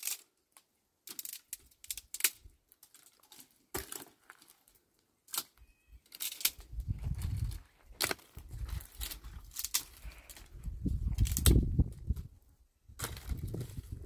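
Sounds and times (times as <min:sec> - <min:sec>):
dry wood crackling and snapping: 0:00.0 - 0:12.3, 0:13.0 - 0:14.0.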